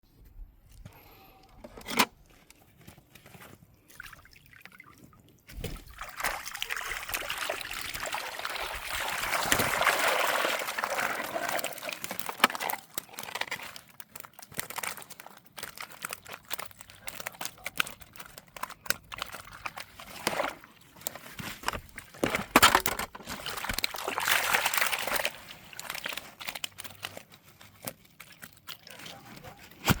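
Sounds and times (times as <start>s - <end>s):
water sloshing and splashing: 3.4s - 30.0s.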